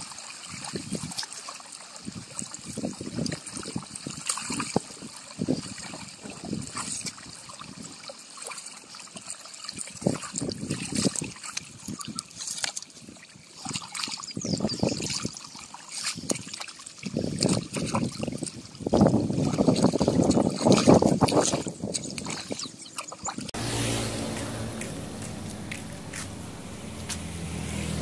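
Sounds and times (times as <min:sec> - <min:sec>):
water flowing and splashing: 0:00.0 - 0:28.0
weeds and mud sloshing: 0:00.0 - 0:28.0.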